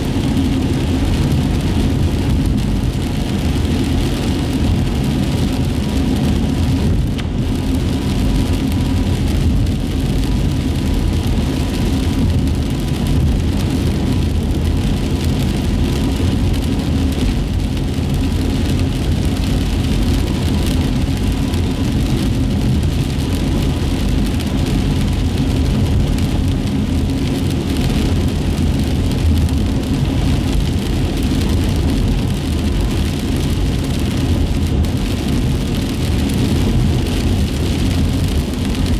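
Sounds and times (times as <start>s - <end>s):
car interior road rumble: 0.0s - 38.9s.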